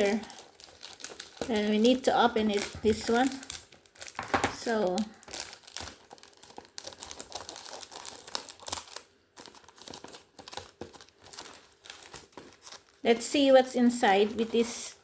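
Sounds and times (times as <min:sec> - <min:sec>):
packaging crinkling: 0:00.0 - 0:14.9.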